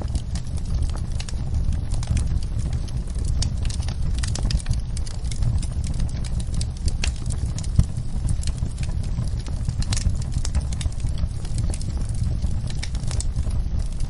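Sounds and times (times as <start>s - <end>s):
low fire rumble: 0.0s - 14.0s
sharp pops and snaps: 0.0s - 14.0s
wood fire crackling: 0.0s - 14.0s.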